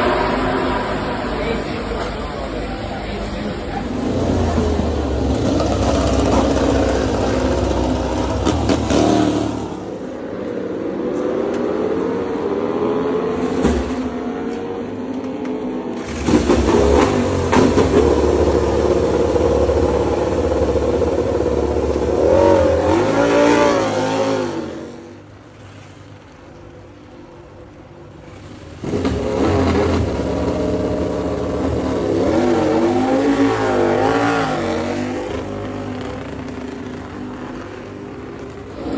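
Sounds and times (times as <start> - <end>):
racing motorcycles passing: 0.0 - 38.9.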